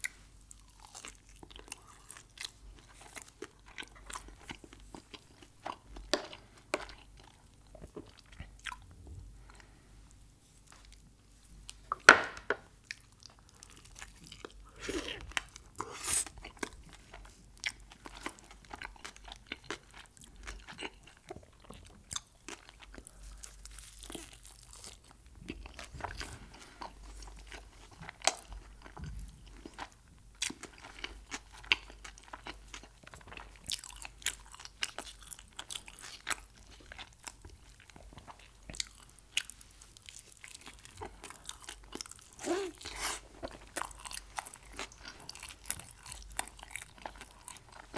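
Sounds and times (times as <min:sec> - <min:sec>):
person chewing crunchy food: 0:00.0 - 0:09.8, 0:10.6 - 0:47.9.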